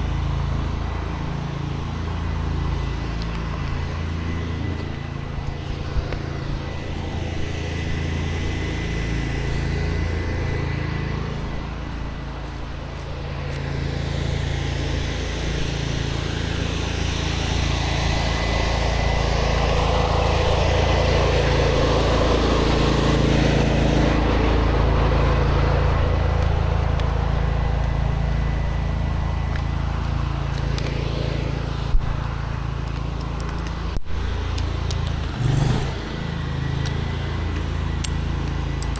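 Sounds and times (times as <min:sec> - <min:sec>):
pressure washer engine hum: 0:00.0 - 0:38.9.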